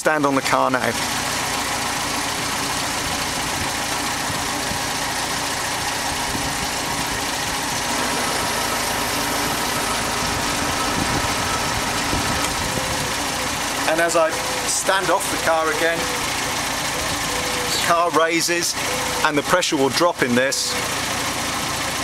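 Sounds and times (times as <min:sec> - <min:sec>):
car engine idling: 0:00.1 - 0:22.0.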